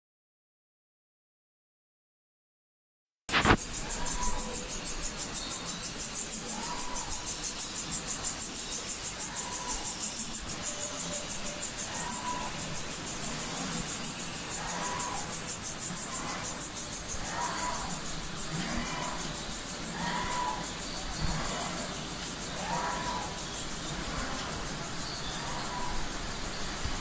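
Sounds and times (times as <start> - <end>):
machinery high-pitched pulsing whine: 3.3 - 27.0.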